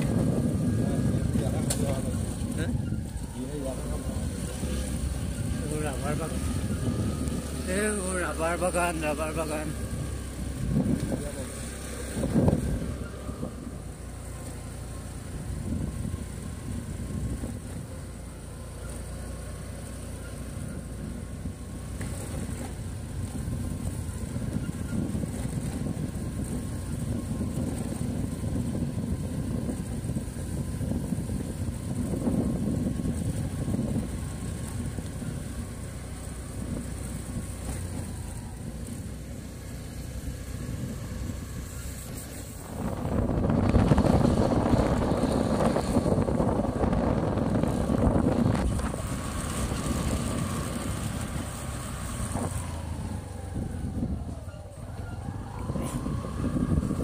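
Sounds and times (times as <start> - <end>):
motor scooter engine rumble: 0.0 - 57.0.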